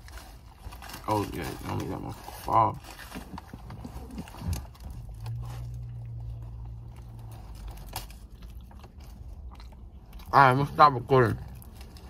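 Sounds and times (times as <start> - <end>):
food wrapper rustles and clicks: 0.0 - 10.3.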